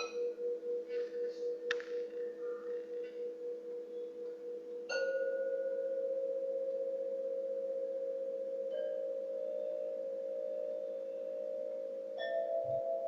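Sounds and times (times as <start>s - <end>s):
singing bowls humming: 0.0s - 13.0s.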